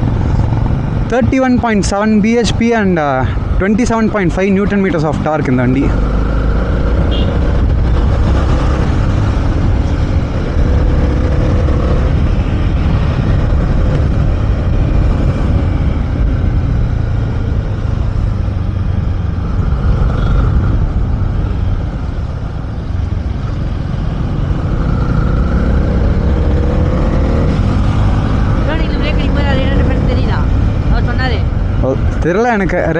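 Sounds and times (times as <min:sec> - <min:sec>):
motorcycle engine running: 0:04.7 - 0:32.4
wind rushing on microphone: 0:06.0 - 0:32.9.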